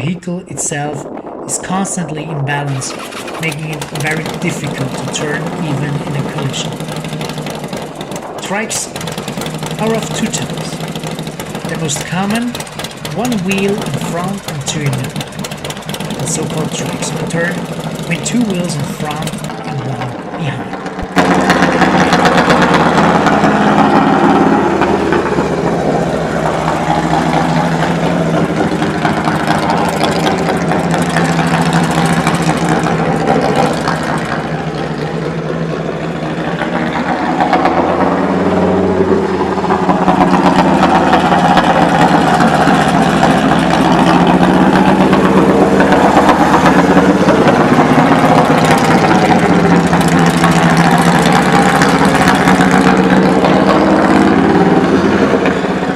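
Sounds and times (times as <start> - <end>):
motorcycle engine idling: 2.8 - 55.9.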